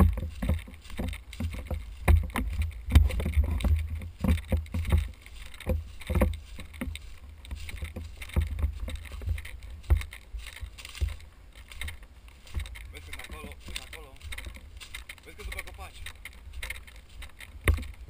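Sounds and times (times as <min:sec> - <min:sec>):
camera gear knocks and rustles: 0:00.0 - 0:18.0.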